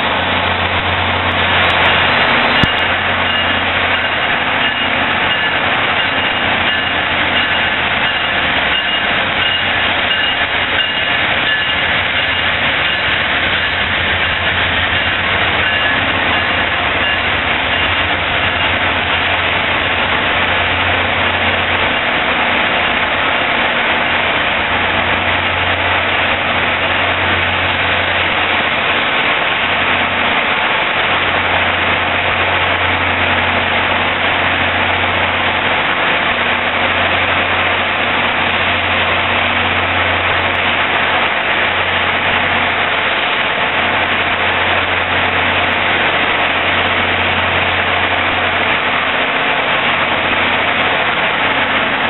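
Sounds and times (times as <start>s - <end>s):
diesel locomotive drone: 0.0s - 52.0s
passenger cars rolling by: 0.0s - 52.0s
thin high whine: 0.0s - 52.0s.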